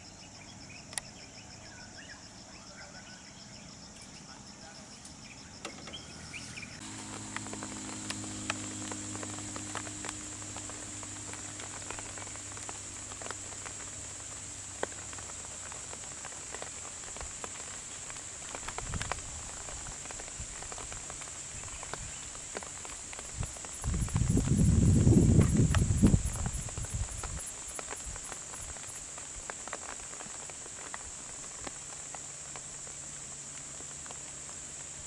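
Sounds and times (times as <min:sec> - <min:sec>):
insects droning: 0:00.0 - 0:35.0
low engine hum: 0:05.1 - 0:35.0
vegetation snapping and rustling: 0:06.8 - 0:35.0.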